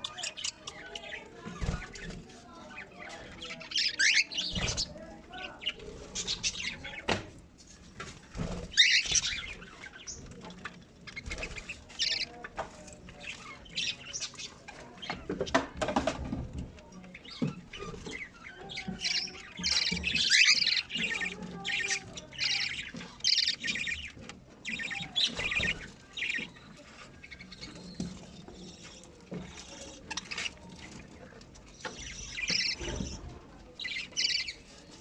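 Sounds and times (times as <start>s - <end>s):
budgerigars chirping: 0.0s - 2.1s, 2.7s - 7.1s, 8.4s - 15.6s, 17.1s - 33.2s, 33.8s - 34.7s.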